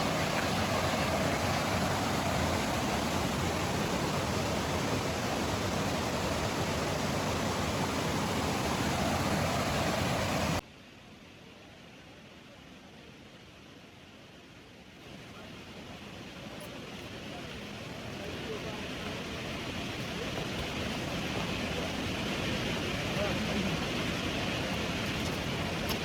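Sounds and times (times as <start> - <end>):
waterfall rushing: 0.0 - 10.6, 15.1 - 26.0
quiet hiss: 0.0 - 26.0.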